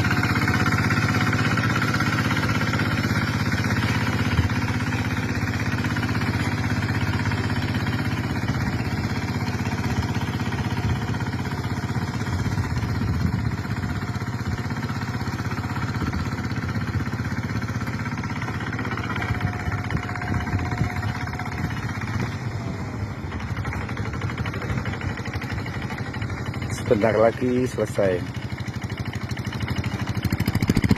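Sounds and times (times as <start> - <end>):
tractor engine running under load: 0.0 - 30.9.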